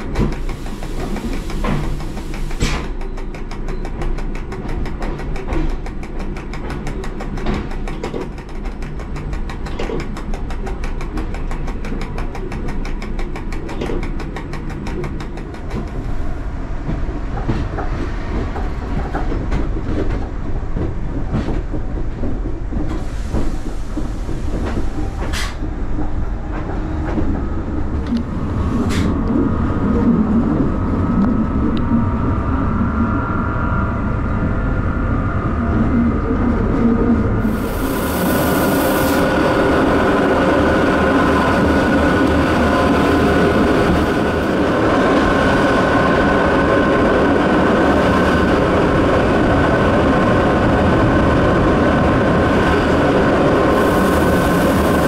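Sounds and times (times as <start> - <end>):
heavy train rumble: 0.0 - 55.0
train whine: 0.0 - 55.0.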